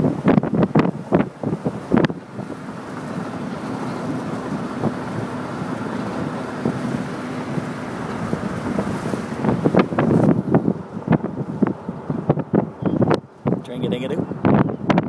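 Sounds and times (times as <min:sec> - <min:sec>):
car engine hum: 0:00.0 - 0:15.0
tyres on road: 0:00.0 - 0:15.0
wind buffeting microphone: 0:00.0 - 0:15.0.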